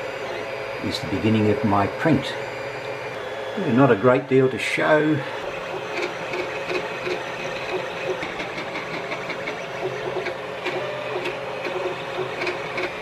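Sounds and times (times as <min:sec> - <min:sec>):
fan hum: 0:00.0 - 0:13.0
stepper motors whirring: 0:00.0 - 0:13.0.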